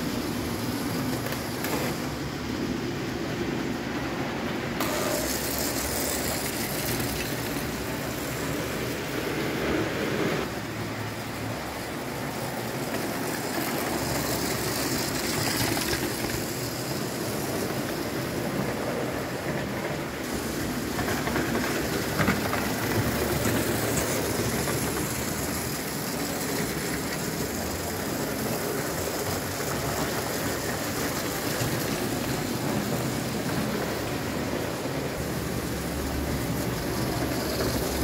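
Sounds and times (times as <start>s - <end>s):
toy train wheels rattling: 4.8s - 9.4s, 11.9s - 38.0s.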